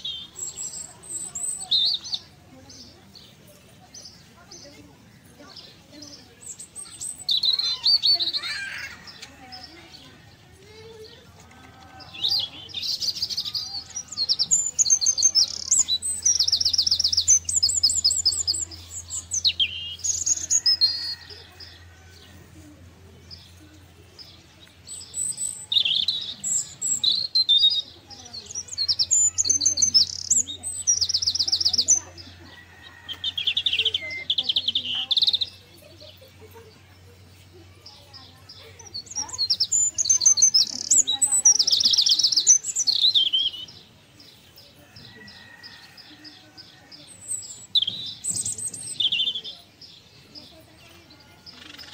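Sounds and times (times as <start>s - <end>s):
songbirds trilling: 0.0s - 51.9s.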